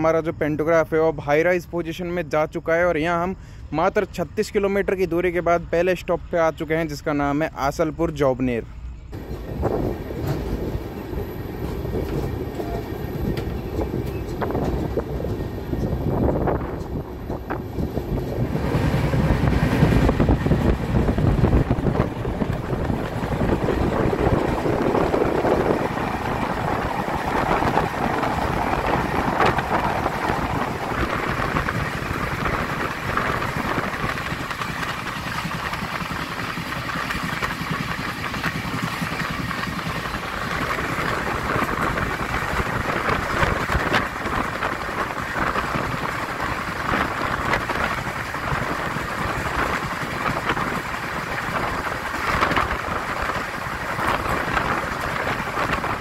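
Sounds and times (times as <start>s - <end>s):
train wheels on track: 0.0s - 56.0s
rush of wind: 8.8s - 56.0s
sharp clicks from rails: 9.1s - 56.0s.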